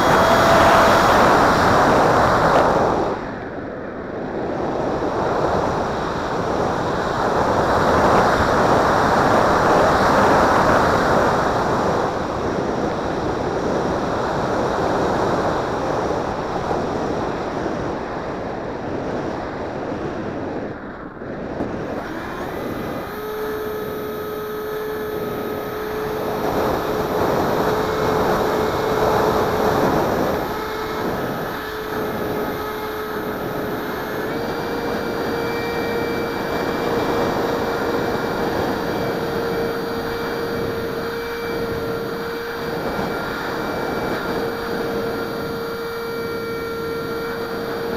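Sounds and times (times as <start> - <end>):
airflow rushing over microphone: 0.0 - 17.8, 20.4 - 47.9
fan whine: 0.0 - 47.9.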